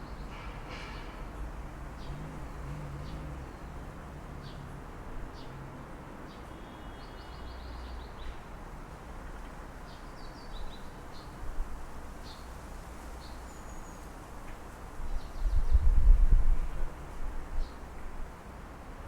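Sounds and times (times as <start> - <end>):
distant traffic hum: 0.0 - 15.4.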